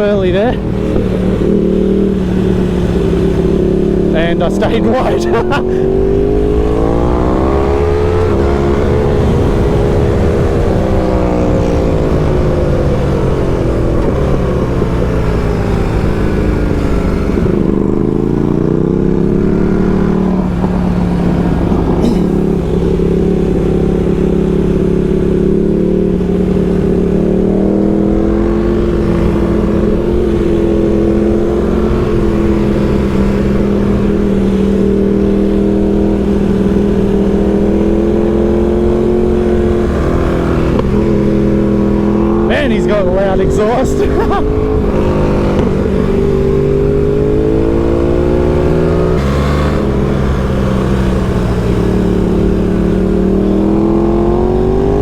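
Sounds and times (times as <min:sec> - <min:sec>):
motorcycle engine at speed: 0:00.0 - 0:55.0
wind rumble: 0:00.0 - 0:55.0.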